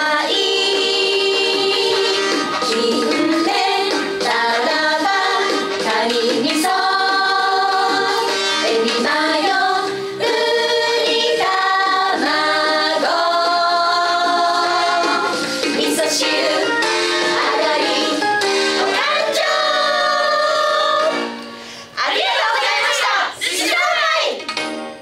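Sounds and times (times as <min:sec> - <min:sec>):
women singing upbeat pop song: 0:00.0 - 0:21.2
pop music: 0:00.0 - 0:25.0.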